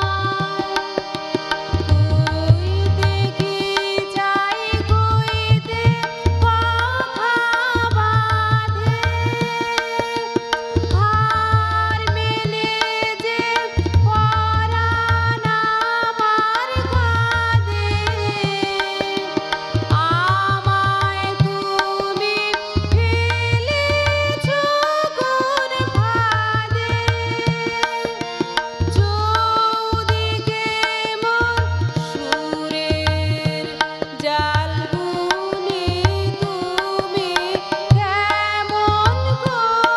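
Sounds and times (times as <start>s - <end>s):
harmonium chords: 0.0s - 39.9s
tabla rhythm: 0.0s - 39.9s
woman singing: 0.0s - 39.9s.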